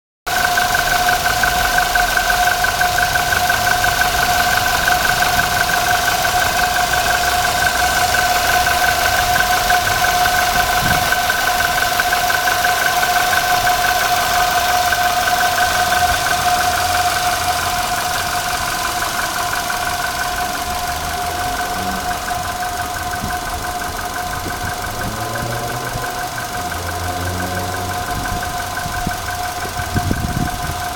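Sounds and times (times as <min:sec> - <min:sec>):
car engine idling: 0:00.3 - 0:30.9
drive belt squealing: 0:00.3 - 0:30.9.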